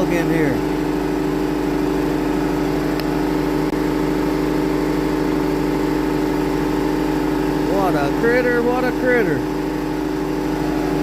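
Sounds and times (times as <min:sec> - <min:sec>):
sawmill running: 0:00.0 - 0:11.0.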